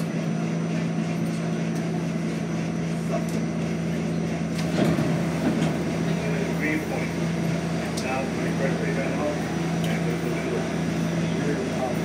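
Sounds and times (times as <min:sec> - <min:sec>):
subway car equipment humming: 0:00.0 - 0:12.0.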